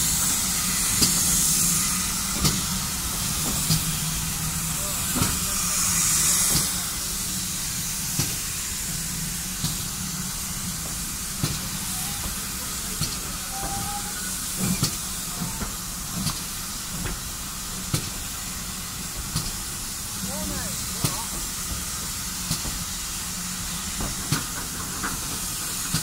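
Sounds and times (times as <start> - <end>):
steam locomotive hissing: 0.0 - 26.0.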